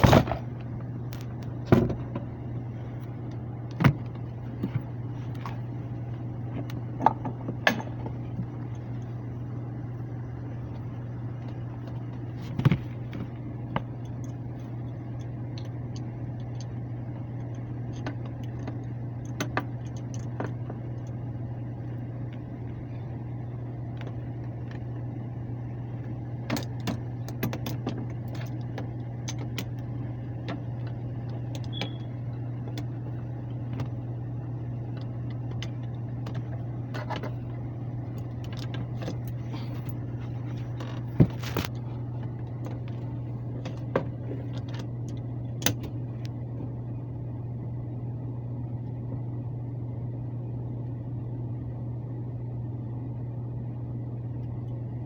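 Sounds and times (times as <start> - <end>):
blower humming: 0.0 - 55.0.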